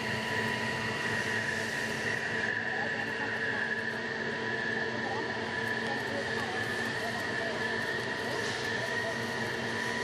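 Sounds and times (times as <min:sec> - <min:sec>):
high steady whine: 0:00.0 - 0:10.0
machinery hum: 0:00.0 - 0:10.0.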